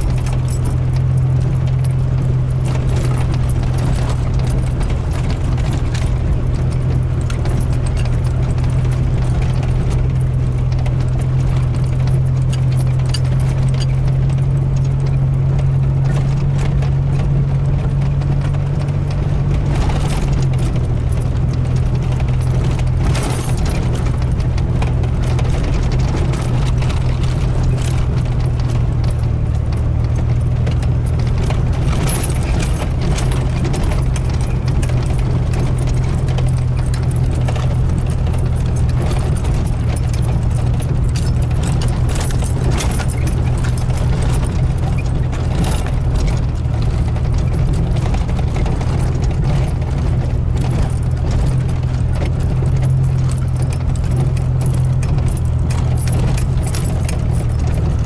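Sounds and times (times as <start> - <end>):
car engine droning: 0.0 - 58.0
truck rattles and clicks: 0.0 - 58.0
tyres crunching over gravel: 0.0 - 58.0.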